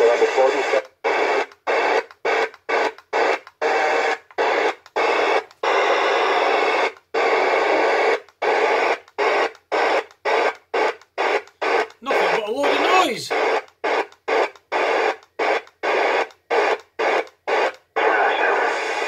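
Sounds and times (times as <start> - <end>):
radio static bursts: 0.0 - 19.0.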